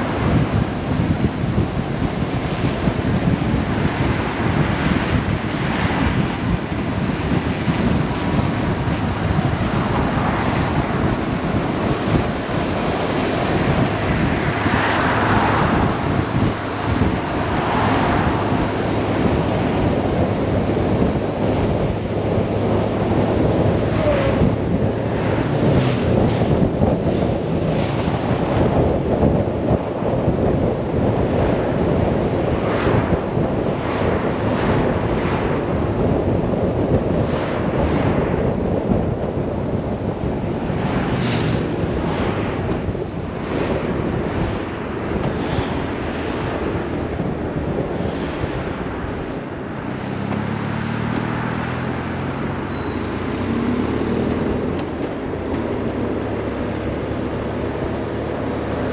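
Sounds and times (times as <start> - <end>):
motorcycle engine low drone: 0.0 - 58.9
wind rushing over microphone: 0.0 - 58.9.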